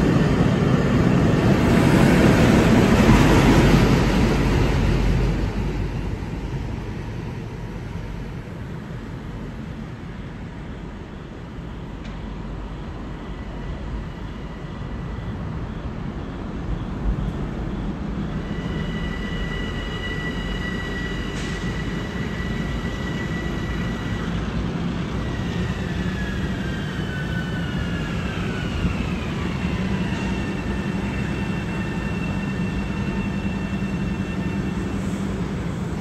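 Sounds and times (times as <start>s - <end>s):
train rumble and hum: 0.0s - 36.0s.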